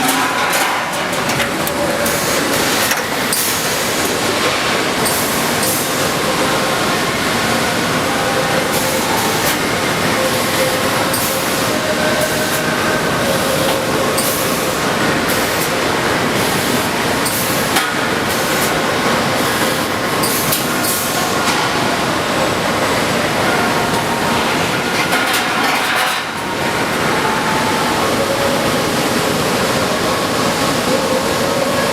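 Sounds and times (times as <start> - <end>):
faint machine whines: 0.0 - 25.6
industrial machine noise: 0.0 - 31.9.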